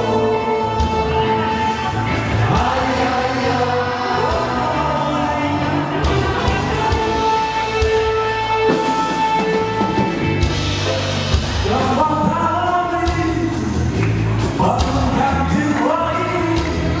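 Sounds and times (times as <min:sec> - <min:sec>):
rock music with singing: 0:00.0 - 0:17.0
steady drum beat: 0:00.0 - 0:17.0.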